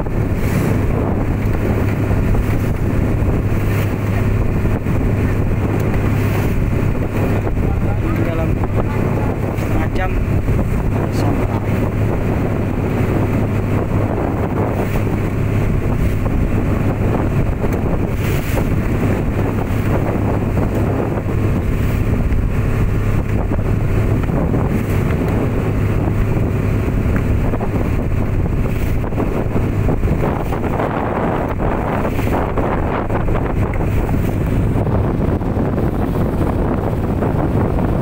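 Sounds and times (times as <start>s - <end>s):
boat engine droning: 0.0s - 38.0s
wind buffeting microphone: 0.0s - 38.0s.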